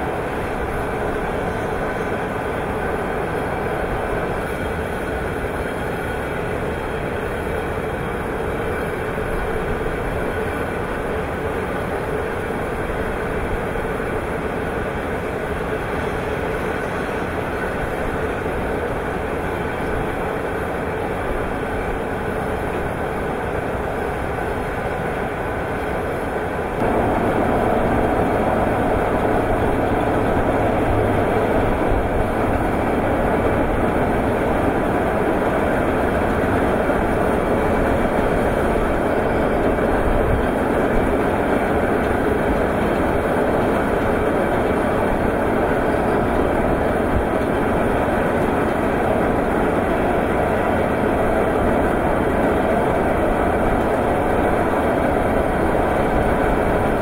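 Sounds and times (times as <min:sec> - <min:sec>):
excavator rumbling and rattling: 0:00.0 - 0:57.0.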